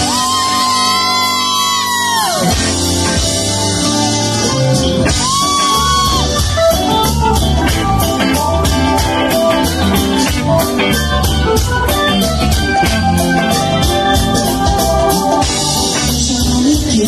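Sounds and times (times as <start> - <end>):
live band playing: 0.0 - 17.0
steady drum beat: 0.0 - 17.0.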